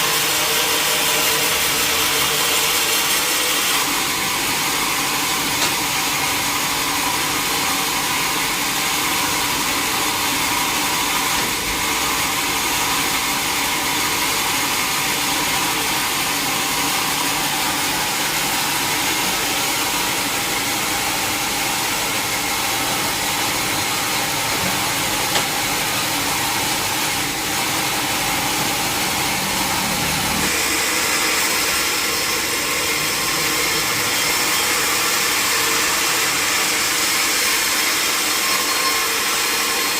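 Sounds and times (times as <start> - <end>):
sawmill machinery hum and hiss: 0.0 - 39.9.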